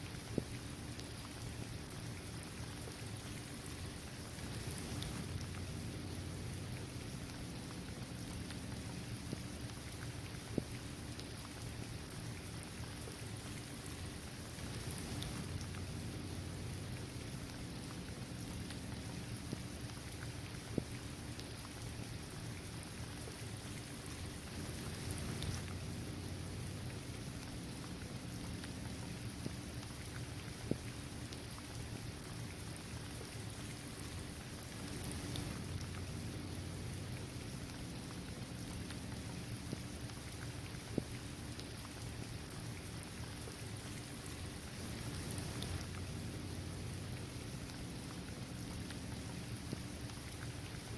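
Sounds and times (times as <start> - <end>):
raindrop ticks: 0.1 - 12.9, 13.5 - 50.9
rain falling on pavement: 0.2 - 50.9.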